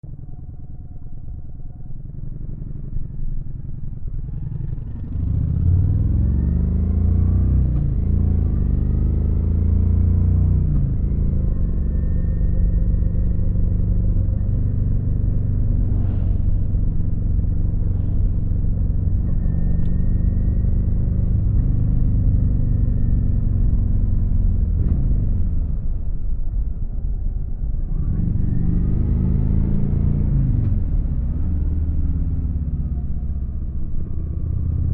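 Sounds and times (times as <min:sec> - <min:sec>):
motorcycle engine accelerating: 0:02.1 - 0:34.9.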